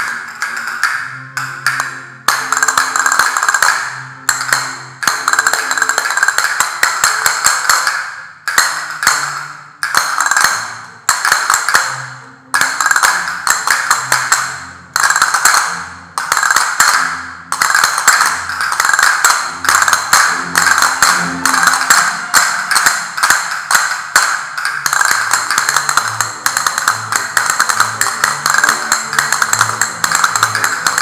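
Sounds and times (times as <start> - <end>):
castanets clicking: 0.0 - 31.0.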